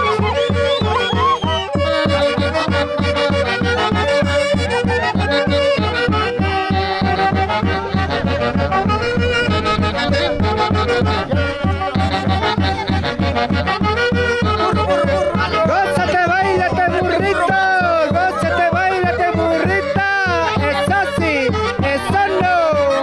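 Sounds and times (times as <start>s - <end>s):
drum beat: 0.0s - 23.0s
festive band music: 0.0s - 23.0s.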